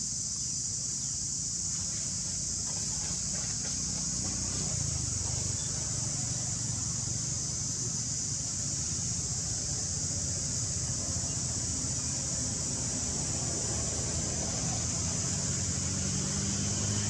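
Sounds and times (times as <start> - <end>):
continuous low rumble: 0.0 - 17.0
high-pitched insect drone: 0.0 - 17.0.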